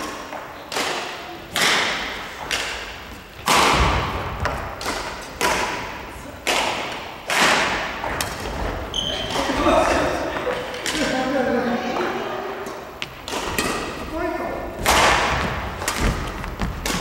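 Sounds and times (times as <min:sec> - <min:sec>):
racket hitting shuttlecock: 0:00.0 - 0:11.2, 0:12.6 - 0:14.0, 0:14.8 - 0:17.0.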